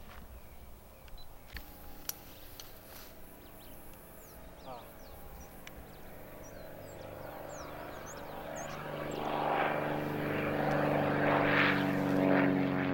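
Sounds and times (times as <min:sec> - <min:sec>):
propeller airplane engine: 0:00.8 - 0:12.9.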